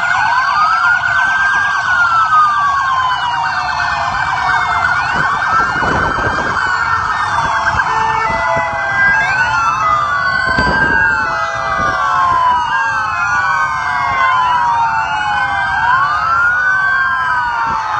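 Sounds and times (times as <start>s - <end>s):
police sirens wailing: 0.0s - 17.9s.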